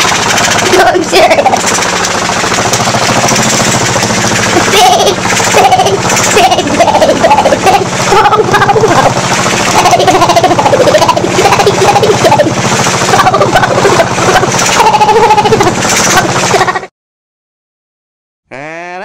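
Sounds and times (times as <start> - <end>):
fast pulsing drone: 0.0 - 16.9.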